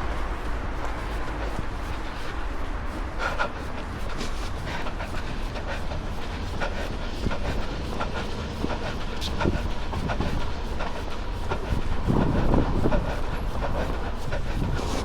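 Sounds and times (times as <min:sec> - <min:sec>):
running footsteps on pavement: 0:00.0 - 0:15.0
wind rumble on microphone: 0:00.0 - 0:15.0.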